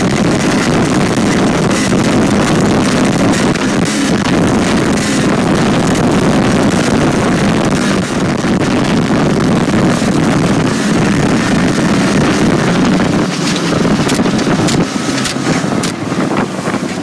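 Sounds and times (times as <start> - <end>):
snowmobile engine running: 0.0 - 17.0
wind on microphone: 0.0 - 17.0.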